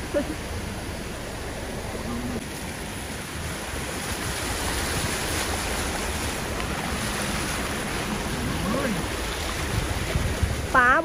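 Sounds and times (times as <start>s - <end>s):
tyres rushing through water: 0.0s - 11.0s
wind noise on microphone: 1.8s - 11.0s.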